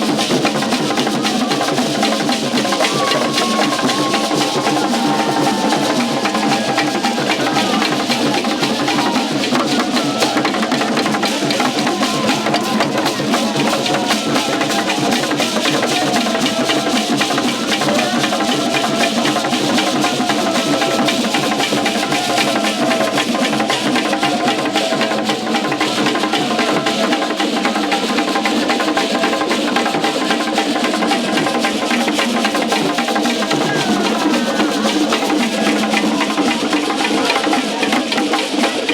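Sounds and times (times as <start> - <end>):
fast dense drumming: 0.0 - 38.9.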